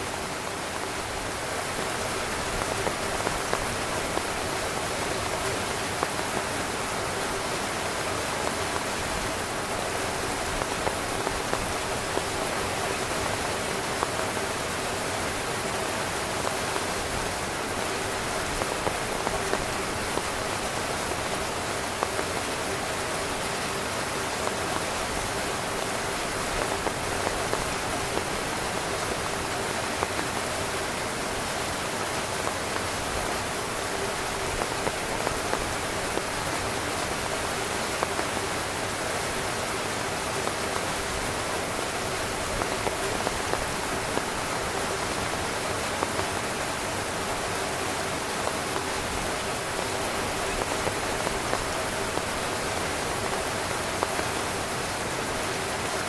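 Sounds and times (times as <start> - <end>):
heavy rain on tent fabric: 0.0 - 56.0.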